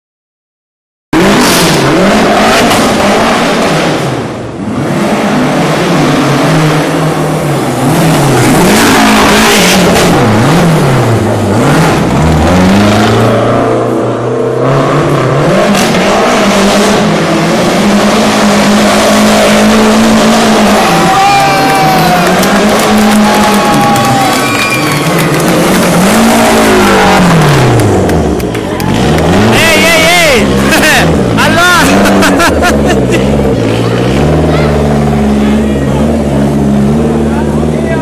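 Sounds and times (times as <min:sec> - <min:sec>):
rally car engine revving: 0:01.2 - 0:38.0.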